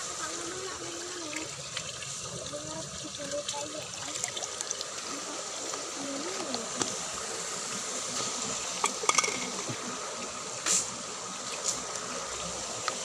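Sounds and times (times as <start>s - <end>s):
water running in ditch: 0.0s - 13.0s.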